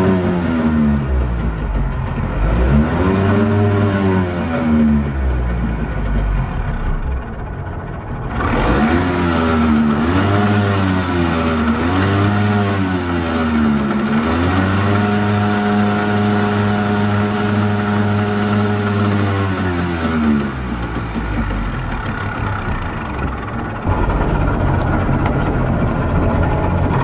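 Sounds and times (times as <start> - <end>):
outboard motor revving: 0.0 - 27.0.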